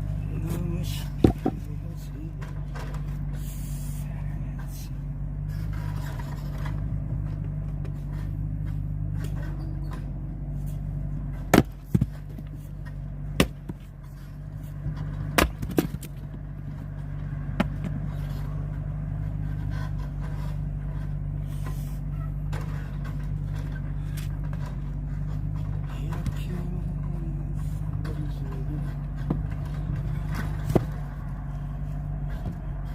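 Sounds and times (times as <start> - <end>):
wooden knocks of splitting firewood: 0.0 - 3.4, 5.6 - 32.9
engine running: 0.0 - 32.9.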